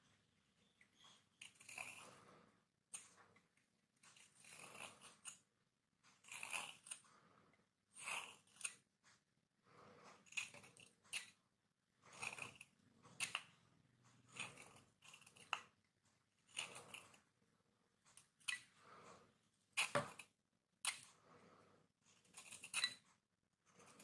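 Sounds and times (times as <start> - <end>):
knife scraping soap: 0.7 - 5.5, 6.1 - 8.9, 9.7 - 11.4, 12.0 - 13.5, 14.1 - 17.4, 18.1 - 24.0.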